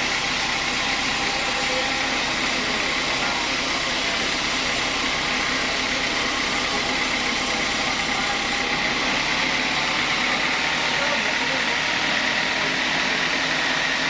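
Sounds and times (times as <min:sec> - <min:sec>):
sawmill machinery drone: 0:00.0 - 0:14.0.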